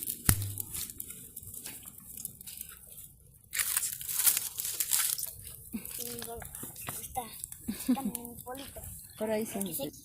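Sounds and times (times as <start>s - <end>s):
campfire crackling: 0.0s - 10.0s.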